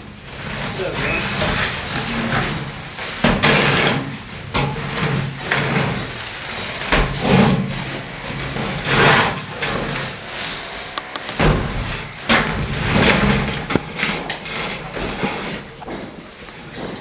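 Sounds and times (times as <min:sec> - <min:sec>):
scraping and knocking strokes: 0:00.0 - 0:17.0.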